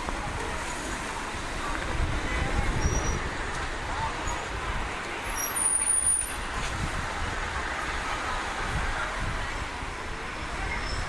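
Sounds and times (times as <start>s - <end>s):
road traffic rumble: 0.0s - 11.0s
voices of passers-by: 0.0s - 11.0s.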